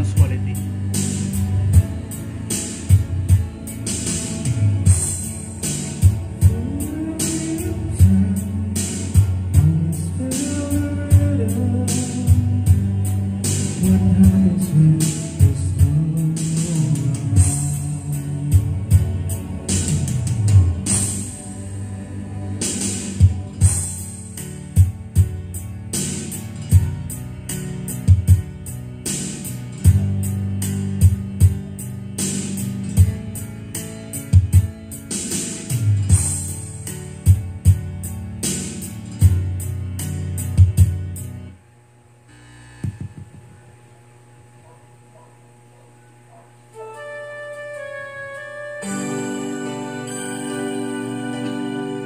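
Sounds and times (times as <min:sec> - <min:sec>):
pop backing track: 0:00.0 - 0:41.6, 0:46.8 - 0:52.0.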